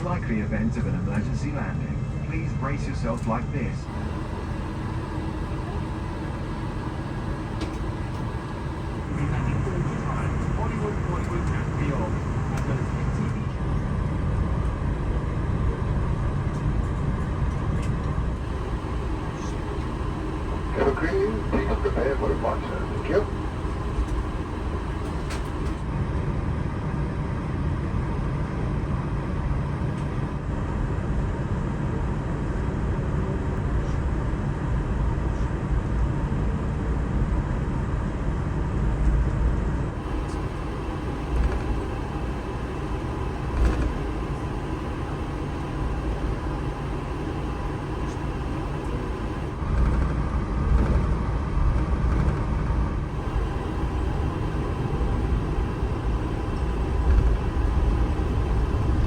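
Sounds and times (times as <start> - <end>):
airliner cabin rumble: 0.0 - 34.0, 39.8 - 59.0.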